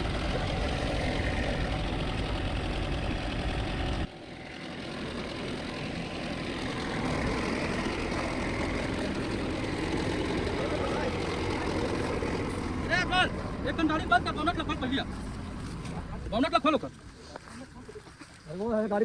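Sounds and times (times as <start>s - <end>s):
diesel engine running: 0.0s - 17.5s.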